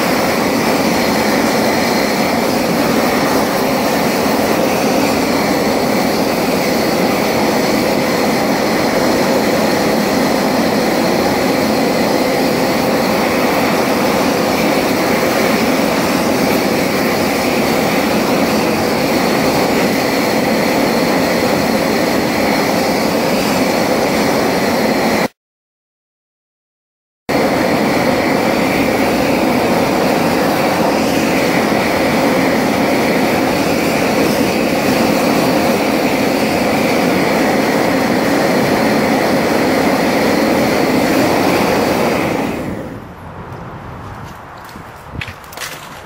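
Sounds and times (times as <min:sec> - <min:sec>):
gas torch roaring: 0:00.0 - 0:25.4, 0:27.3 - 0:46.0.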